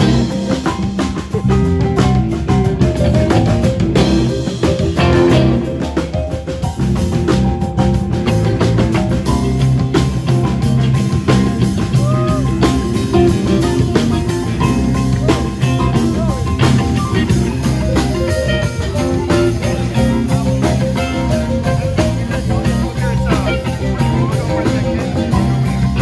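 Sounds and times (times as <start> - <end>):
electric guitar: 0.0 - 26.0
live rock band playing: 0.0 - 26.0.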